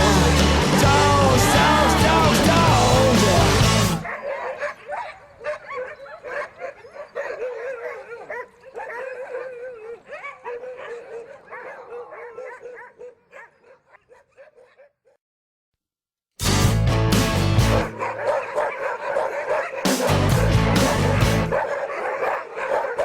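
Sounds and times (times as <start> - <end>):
dogs howling and yipping: 0.8 - 14.9, 17.9 - 23.0.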